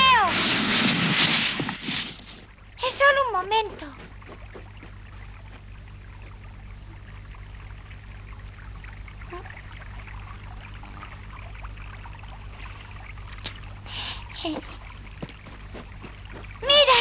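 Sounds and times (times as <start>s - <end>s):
meltwater trickling and dripping: 2.4s - 16.8s.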